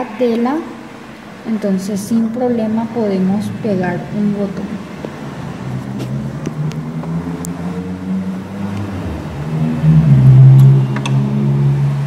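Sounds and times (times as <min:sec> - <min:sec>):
low motor hum: 0:02.1 - 0:12.0.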